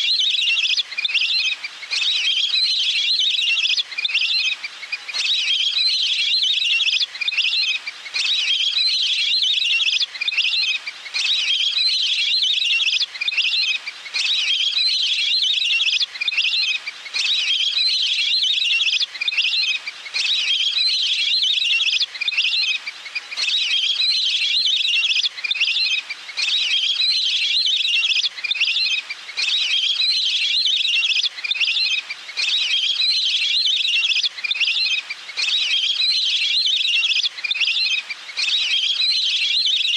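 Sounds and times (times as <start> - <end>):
recorded bird call trilling: 0.0 - 39.9.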